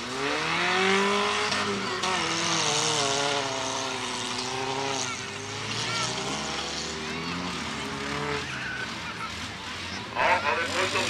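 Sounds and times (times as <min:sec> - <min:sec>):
racing car engines revving: 0:00.0 - 0:11.0
tyre and road noise: 0:00.0 - 0:11.0.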